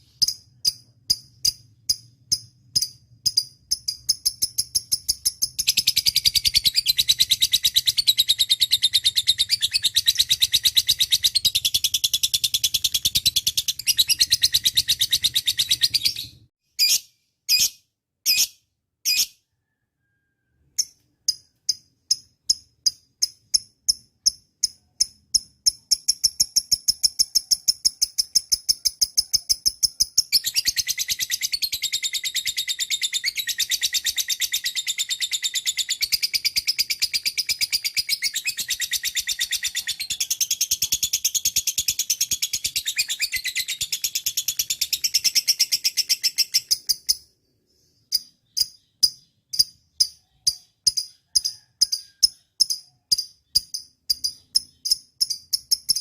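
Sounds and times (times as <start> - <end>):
lovebird chirping: 0.0 - 56.0.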